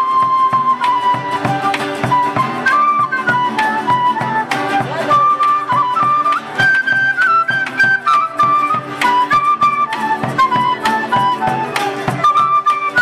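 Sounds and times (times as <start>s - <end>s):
breathy flute melody: 0.0s - 13.0s
light percussion: 0.0s - 13.0s
strummed strings: 0.0s - 13.0s.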